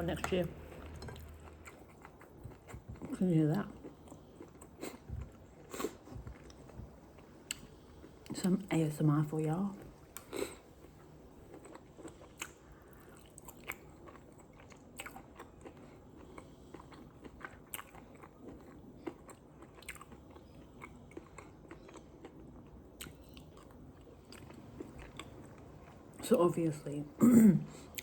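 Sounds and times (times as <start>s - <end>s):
person chewing food: 0.2s - 8.3s, 9.8s - 26.2s, 27.7s - 28.0s.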